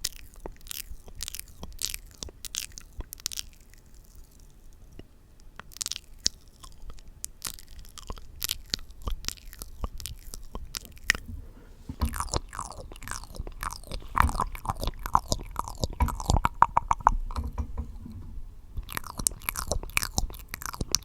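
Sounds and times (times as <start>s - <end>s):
lip smacks: 0.0s - 17.6s, 18.8s - 21.0s.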